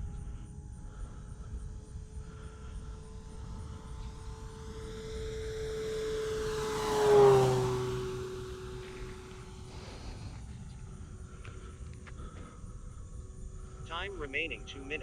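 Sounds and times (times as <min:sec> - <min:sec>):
model plane propeller and motor whine: 0:00.0 - 0:15.0.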